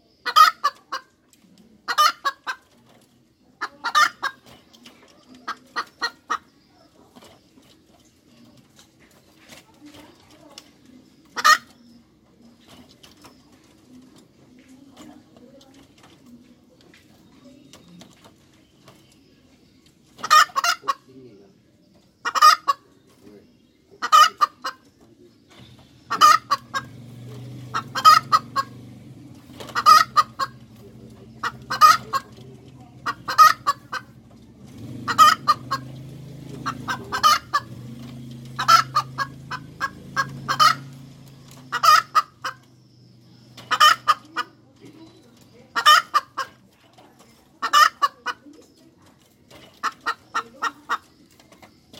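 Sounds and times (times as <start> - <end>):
hen clucking: 0.0 - 51.9.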